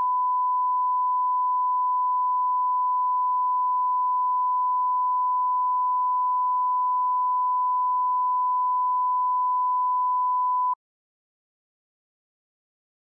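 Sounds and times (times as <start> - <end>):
steady test tone beep: 0.0 - 10.8.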